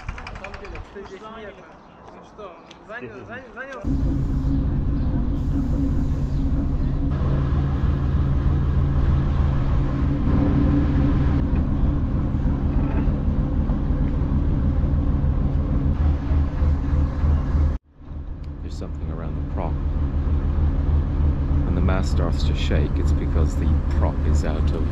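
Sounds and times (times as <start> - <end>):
boat engine droning: 3.9 - 24.9.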